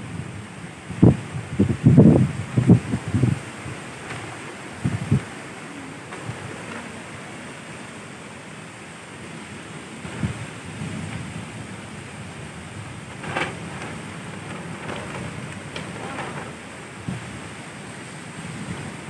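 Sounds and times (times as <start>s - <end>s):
wind buffeting microphone: 0.0s - 7.9s, 9.8s - 19.0s
surf-like noise: 0.0s - 19.0s.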